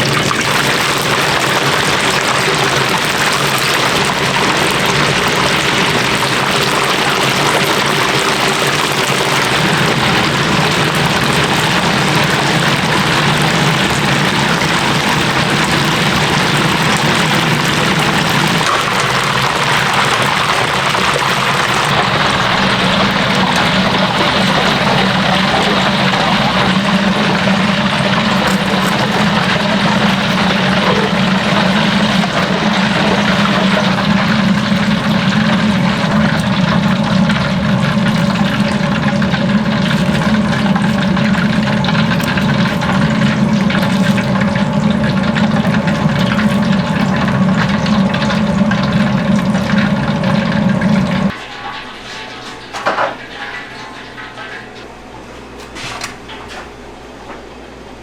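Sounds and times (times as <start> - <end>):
meat deep-frying in hot oil: 0.0 - 56.6
low kitchen drone: 0.0 - 58.0.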